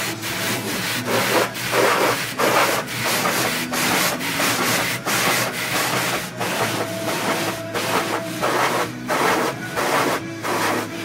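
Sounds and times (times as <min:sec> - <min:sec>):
car wash brushes swishing: 0:00.0 - 0:11.0.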